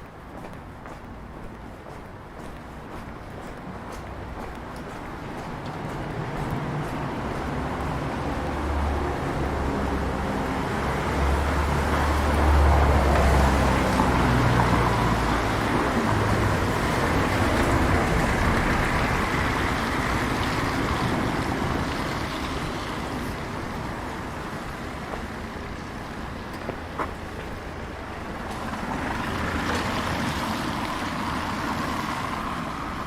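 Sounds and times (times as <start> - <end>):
tyre noise on wet street: 0.0 - 33.0.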